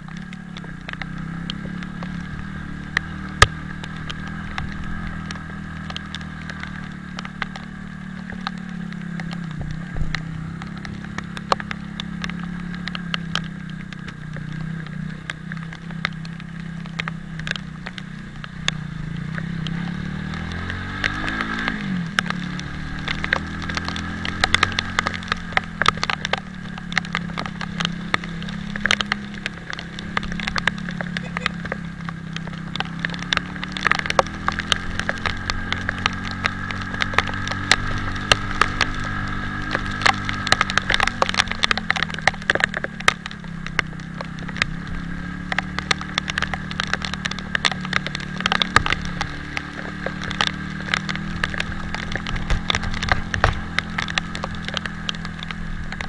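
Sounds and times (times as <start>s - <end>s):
motorcycle engine running: 0.0s - 56.0s
raindrops ticking: 0.0s - 56.0s.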